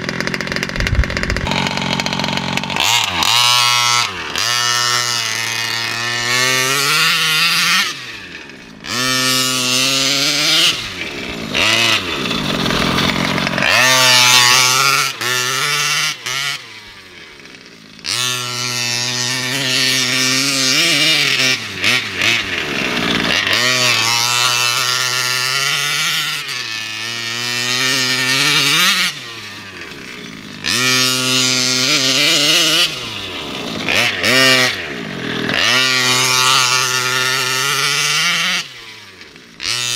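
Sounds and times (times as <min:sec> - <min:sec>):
small gas engine revving: 0:00.0 - 0:39.9.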